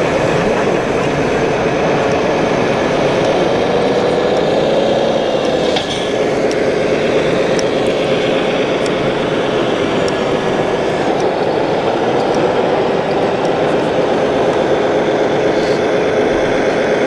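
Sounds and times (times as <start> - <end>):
model trucks mechanical hum: 0.0 - 17.0
motor whine: 0.0 - 17.0.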